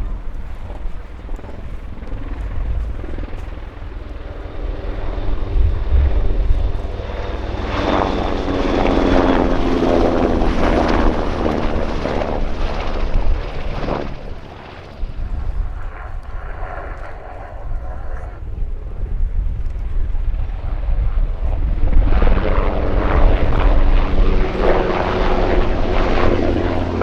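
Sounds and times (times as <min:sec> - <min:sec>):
helicopter rotors rumbling: 0:00.0 - 0:27.0
turbine whine: 0:00.0 - 0:27.0.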